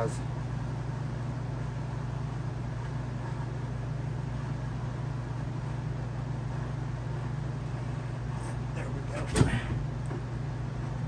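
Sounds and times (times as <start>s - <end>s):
fan humming and hissing: 0.0s - 11.0s.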